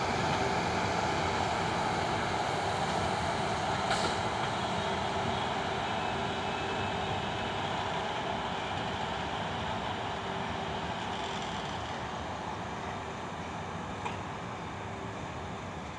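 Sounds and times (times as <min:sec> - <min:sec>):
locomotive rumbling: 0:00.0 - 0:13.2.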